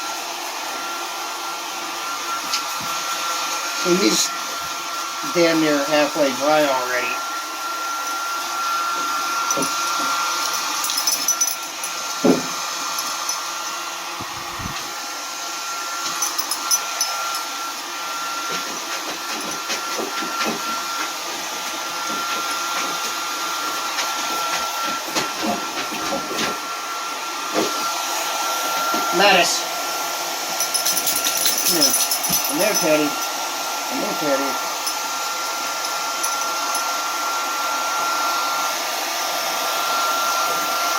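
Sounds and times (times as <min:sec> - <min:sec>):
blow dryer whining: 0:00.0 - 0:40.9.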